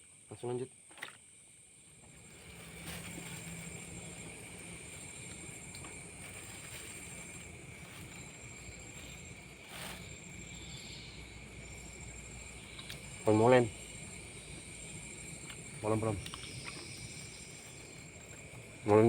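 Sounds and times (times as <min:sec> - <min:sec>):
night insects trilling: 0:00.0 - 0:19.0.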